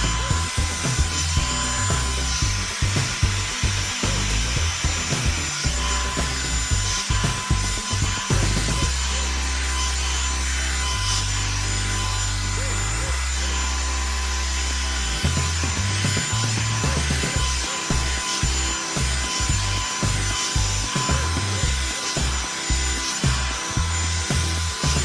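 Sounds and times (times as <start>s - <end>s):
hot-air brush blowing: 0.0s - 25.0s.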